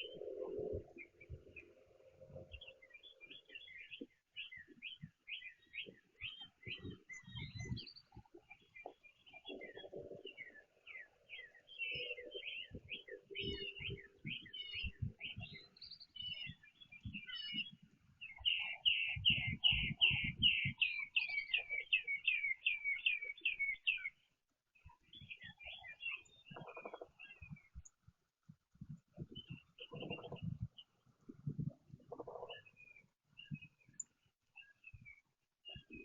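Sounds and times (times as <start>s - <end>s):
bird singing repeated notes: 0.0s - 28.0s, 29.2s - 36.0s
songbirds chirping: 0.0s - 36.0s.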